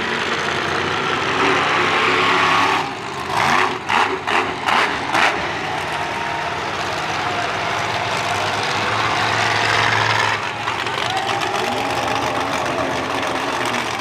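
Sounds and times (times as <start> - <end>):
large vehicle engines idling: 0.0 - 14.0.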